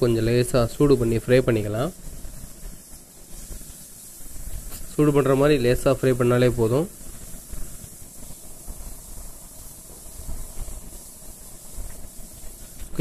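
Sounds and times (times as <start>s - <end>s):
meat sizzling in oil: 0.0s - 13.0s
spatula stirring on griddle: 0.0s - 13.0s.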